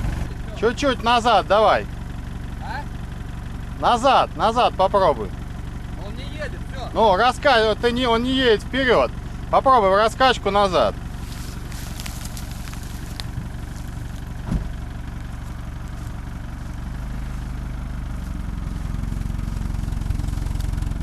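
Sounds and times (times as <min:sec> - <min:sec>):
suv engine under load: 0:00.0 - 0:21.0.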